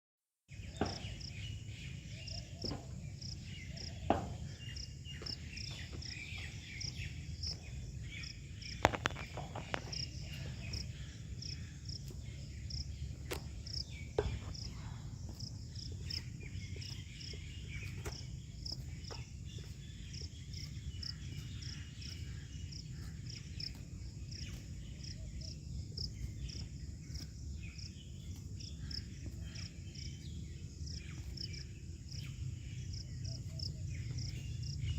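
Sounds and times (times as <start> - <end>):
insects chirping: 0.5 - 34.9.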